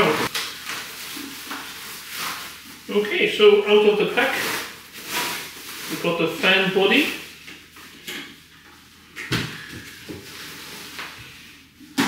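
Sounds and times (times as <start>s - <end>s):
plastic bag rustling: 0.2s - 8.0s, 9.6s - 11.7s.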